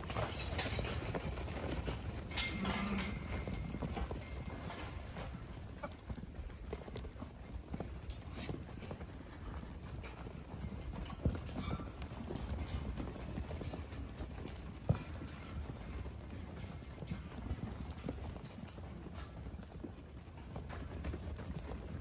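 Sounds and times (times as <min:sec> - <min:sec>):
lamb hooves on dirt: 0:00.0 - 0:22.0.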